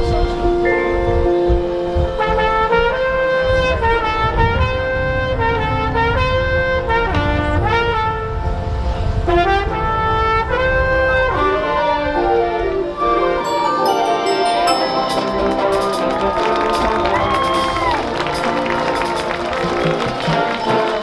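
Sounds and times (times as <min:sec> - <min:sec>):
marching band brass chords: 0:00.0 - 0:21.0.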